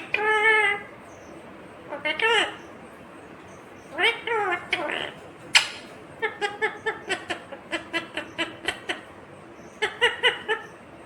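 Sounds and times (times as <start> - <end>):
parakeet calling: 0.0 - 11.0.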